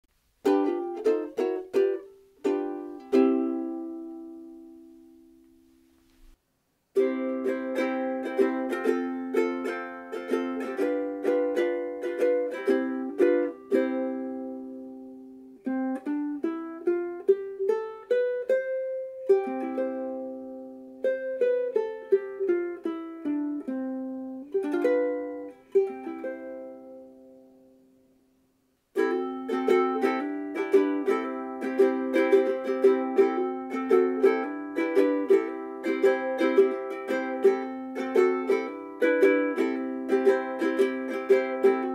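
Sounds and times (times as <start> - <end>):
ukulele strumming chords: 0.1 - 28.3, 28.9 - 41.9
ukulele single-note melody: 0.4 - 6.4, 7.0 - 28.2, 28.9 - 41.9.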